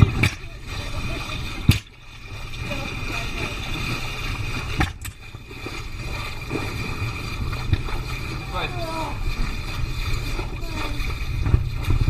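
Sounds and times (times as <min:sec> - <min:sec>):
wind and water rushing: 0:00.0 - 0:12.0.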